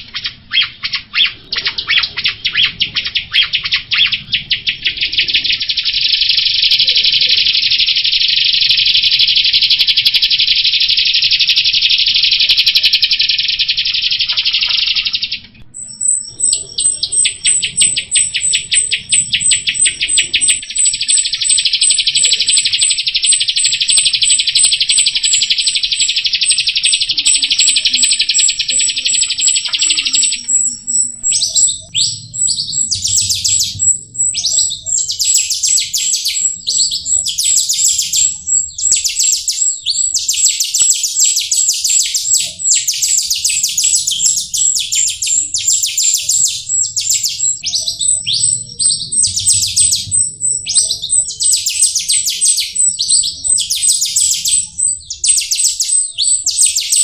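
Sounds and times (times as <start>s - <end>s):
high pulsing chirp: 0.0s - 57.0s
starling singing: 0.0s - 57.0s.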